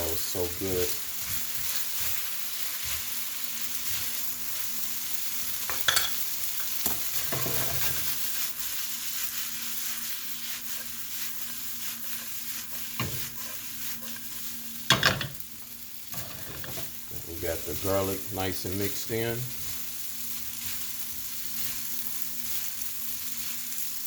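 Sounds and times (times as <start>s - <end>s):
noodles sizzling in a pan: 0.0s - 24.0s.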